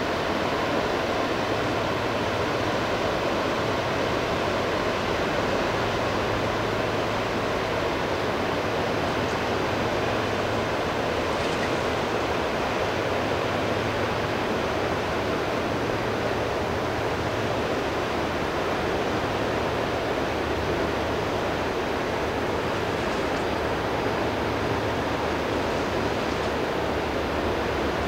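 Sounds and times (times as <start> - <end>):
rush of water and wind: 0.0 - 28.0.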